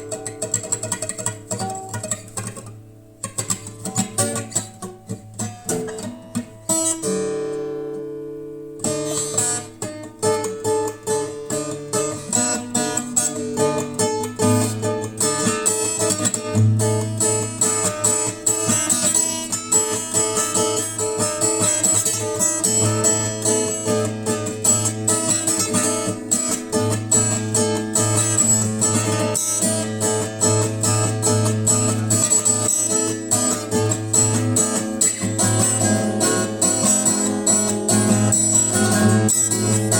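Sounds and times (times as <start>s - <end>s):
acoustic guitar strummed and picked: 0.0s - 39.9s.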